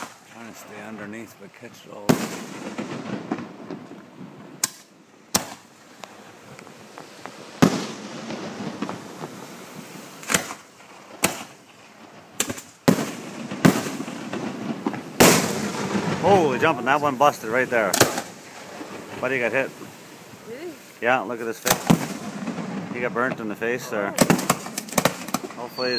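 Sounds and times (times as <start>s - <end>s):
fireworks shells bursting: 2.1s - 25.9s.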